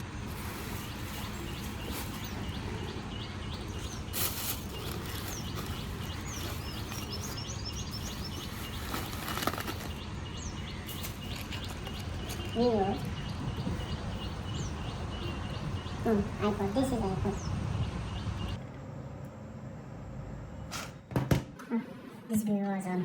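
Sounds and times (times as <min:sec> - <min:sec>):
small birds chirping: 0:00.0 - 0:18.6
outdoor background hum: 0:00.0 - 0:23.0.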